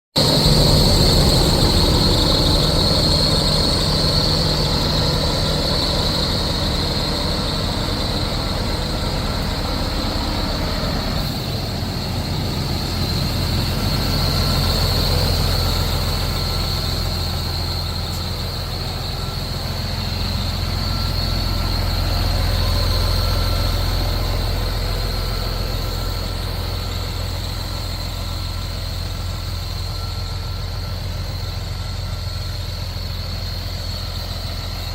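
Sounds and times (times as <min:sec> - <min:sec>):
diesel truck engine running: 0:00.2 - 0:34.9
high whine: 0:00.2 - 0:34.9.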